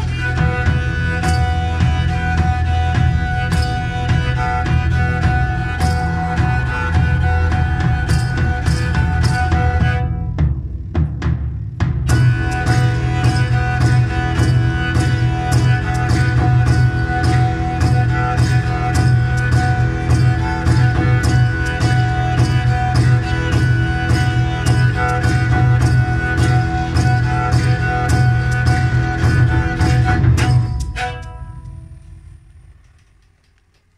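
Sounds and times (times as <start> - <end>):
bowed lyre melody with drone: 0.0 - 10.6, 12.1 - 33.1
percussive knocking beat: 0.0 - 33.8.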